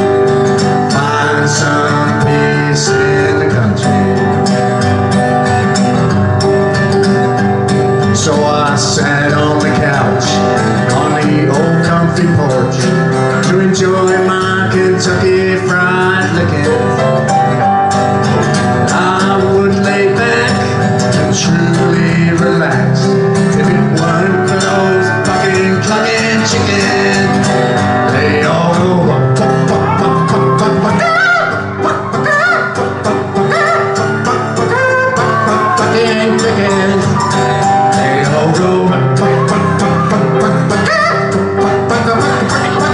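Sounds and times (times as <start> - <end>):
man singing: 0.0 - 4.9, 7.9 - 17.8, 18.4 - 42.9
acoustic guitar: 0.0 - 42.9
piano: 0.0 - 42.9.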